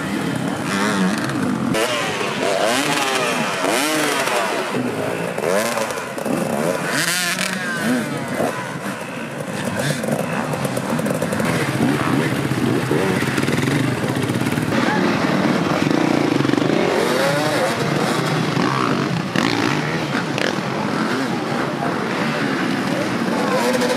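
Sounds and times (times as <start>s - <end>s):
dirt bike engines revving: 0.0s - 23.9s.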